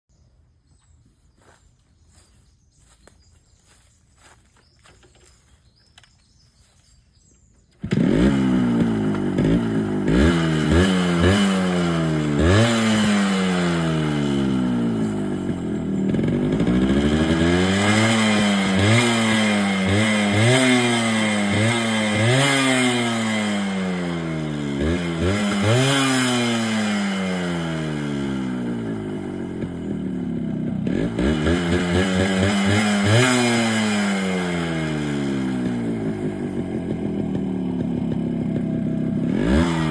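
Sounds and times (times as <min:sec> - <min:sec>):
two-stroke motorcycle engine revving: 0:07.7 - 0:39.9.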